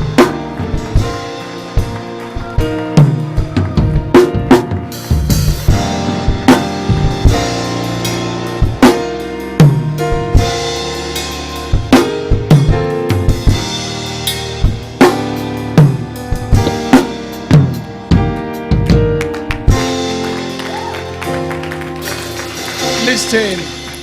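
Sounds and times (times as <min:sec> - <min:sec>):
drum kit playing: 0:00.0 - 0:24.0.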